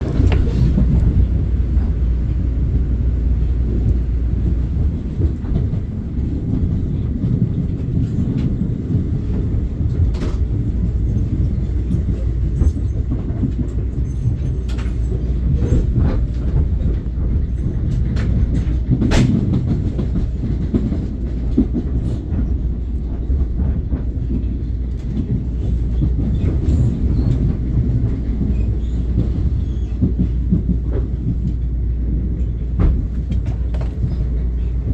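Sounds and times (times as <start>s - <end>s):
train rumbling on rails: 0.0s - 34.9s
train wheels clicking: 3.7s - 34.9s.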